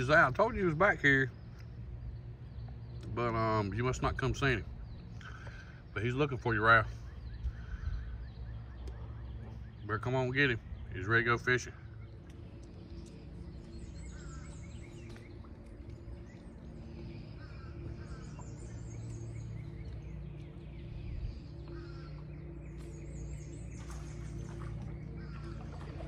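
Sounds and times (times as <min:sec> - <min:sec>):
songbirds chirping: 0:00.0 - 0:26.0
steady low hum: 0:00.0 - 0:26.0.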